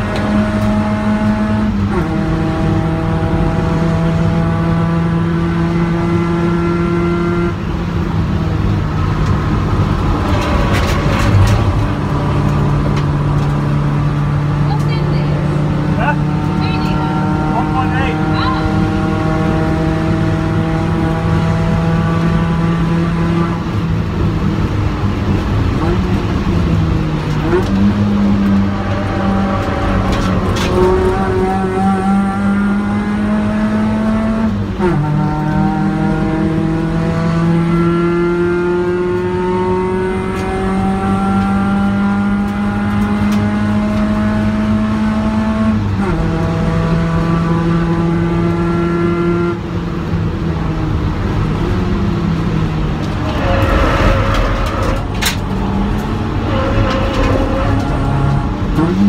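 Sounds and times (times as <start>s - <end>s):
car engine pulling hard: 0.0s - 59.0s
road and wind noise: 0.0s - 59.0s.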